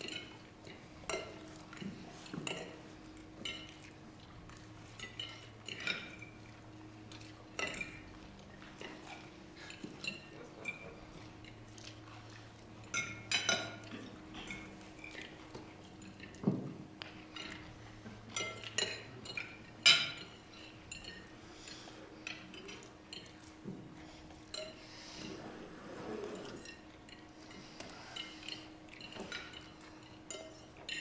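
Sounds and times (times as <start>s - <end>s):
cutlery and glassware clinking: 0.0s - 6.6s, 7.2s - 21.3s, 24.4s - 25.4s, 26.0s - 31.0s.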